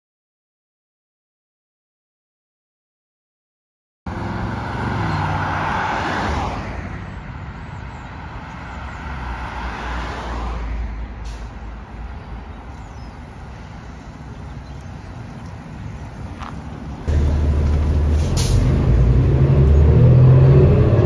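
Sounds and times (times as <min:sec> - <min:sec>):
bus diesel engine drone: 0:04.1 - 0:21.0.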